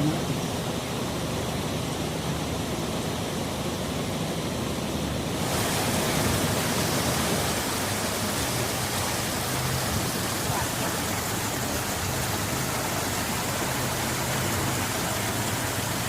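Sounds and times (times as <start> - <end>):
water rushing into a lock: 0.0 - 16.0.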